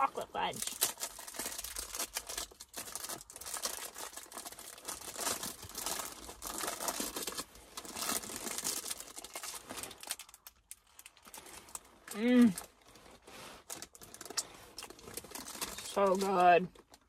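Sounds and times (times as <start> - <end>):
candy wrapper crinkling and tearing: 0.1 - 17.0.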